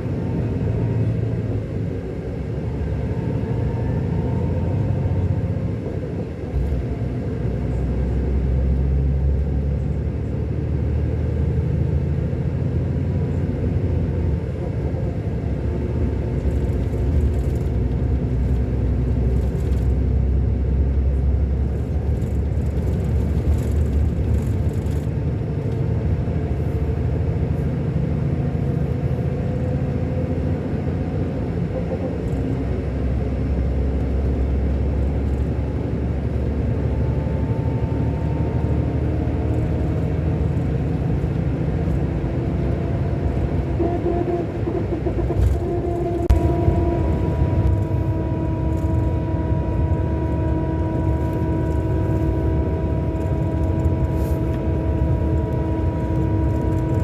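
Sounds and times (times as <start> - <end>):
coach engine running: 0.0 - 57.0.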